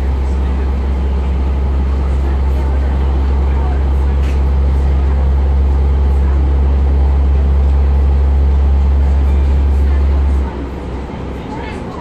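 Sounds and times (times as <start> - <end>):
diesel engine drone: 0.0 - 12.0
rail running noise: 0.0 - 12.0.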